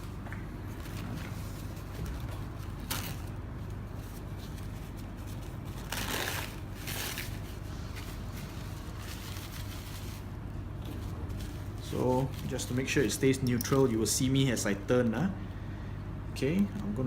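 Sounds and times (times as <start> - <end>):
rustling scraping handling noises: 0.0 - 14.1
steady low hum: 0.0 - 17.0.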